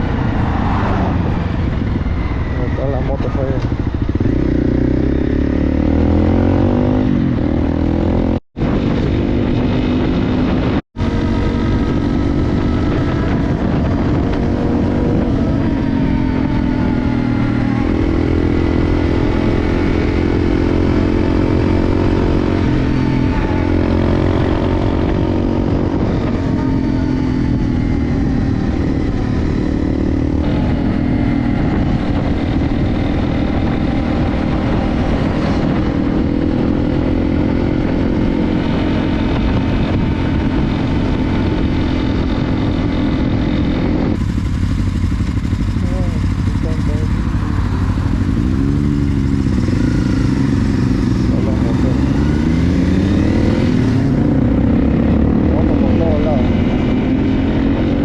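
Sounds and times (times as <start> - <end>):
dirt bike engine running: 1.6 - 58.0.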